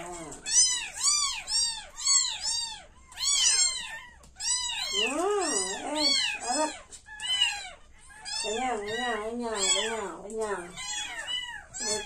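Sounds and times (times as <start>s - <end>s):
kittens mewing: 0.0s - 12.0s.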